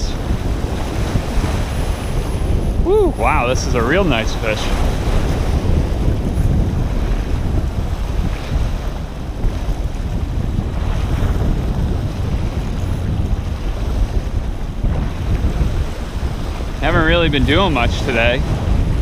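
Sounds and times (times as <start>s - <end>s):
water washing: 0.0s - 19.0s
wind buffeting microphone: 0.0s - 19.0s.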